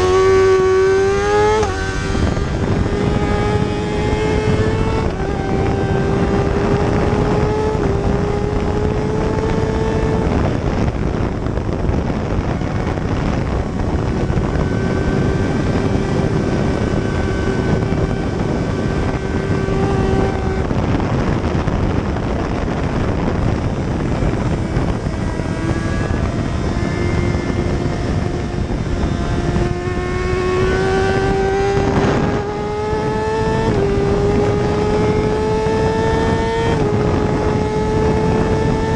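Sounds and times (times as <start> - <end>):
racing motorcycle engine: 0.0 - 38.9
wind noise: 0.0 - 38.9.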